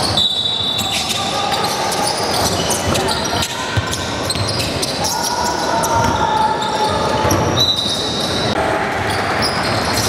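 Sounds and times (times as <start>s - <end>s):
sneakers squeaking on hardwood: 0.0s - 10.0s.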